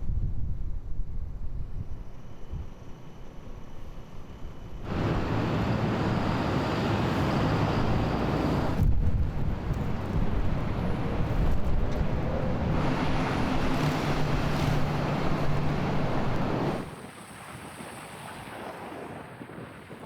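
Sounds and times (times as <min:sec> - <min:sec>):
wind blowing on microphone: 0:00.0 - 0:02.8, 0:04.8 - 0:20.0
low steady hum: 0:00.0 - 0:16.9.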